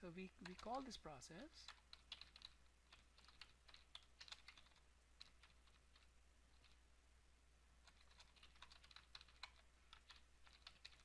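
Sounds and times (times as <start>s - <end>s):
typing on keyboard: 0.0s - 1.0s, 1.6s - 6.8s, 7.8s - 11.0s.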